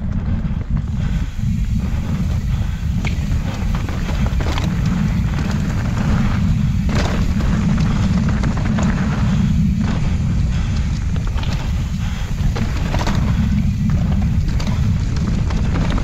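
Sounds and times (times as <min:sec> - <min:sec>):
bike rattling over bumps: 0:00.0 - 0:16.0
wind buffeting and tyre noise: 0:00.0 - 0:16.0.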